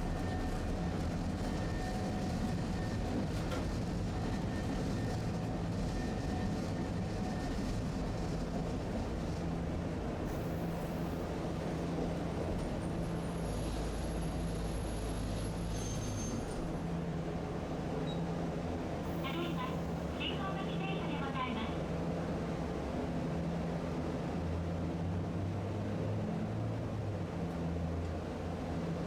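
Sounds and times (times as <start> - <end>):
streetcar motor and wheels hum: 0.0 - 29.0.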